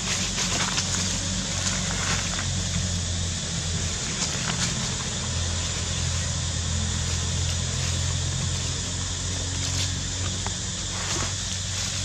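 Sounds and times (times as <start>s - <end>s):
constant hiss: 0.0s - 12.0s
low mechanical hum: 0.0s - 12.0s.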